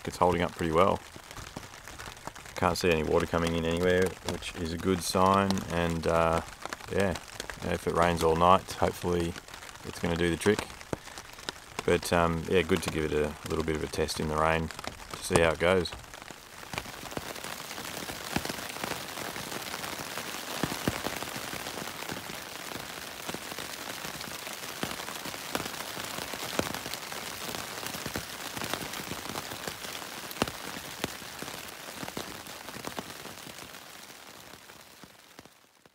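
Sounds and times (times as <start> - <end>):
rain on tent fabric: 0.0 - 35.9.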